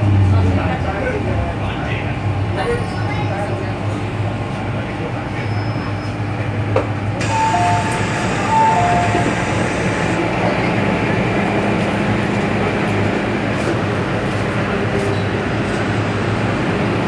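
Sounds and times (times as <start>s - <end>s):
train noise: 0.0s - 17.0s.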